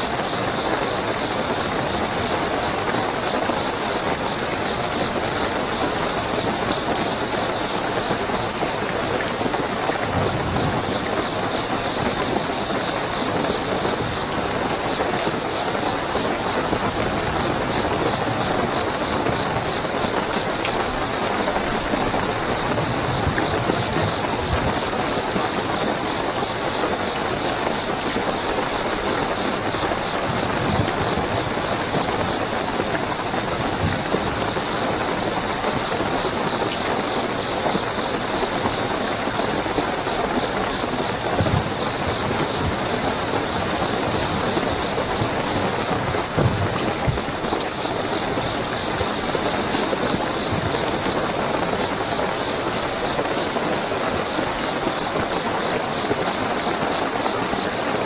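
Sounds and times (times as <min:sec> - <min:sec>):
crickets chirping: 0:00.0 - 0:58.0
heavy rainfall: 0:00.0 - 0:58.0.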